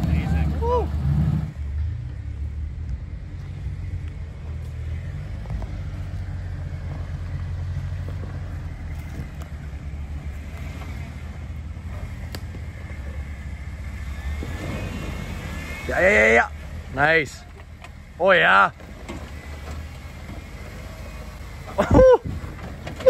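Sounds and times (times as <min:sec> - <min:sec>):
vehicle engine rumbling at low revs: 0:00.0 - 0:23.0.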